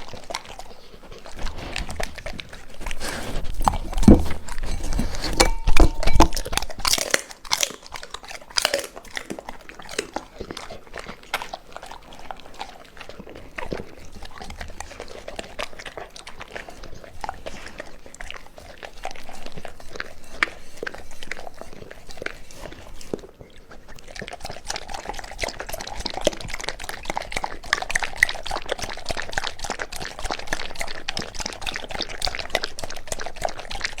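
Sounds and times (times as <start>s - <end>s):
dog chewing wet food: 0.0s - 34.0s
dog licking and lapping: 0.0s - 34.0s.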